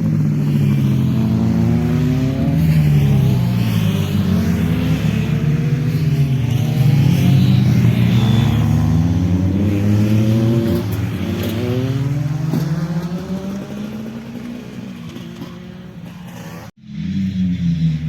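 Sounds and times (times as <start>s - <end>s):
motorcycle engine passing by: 0.0s - 18.0s.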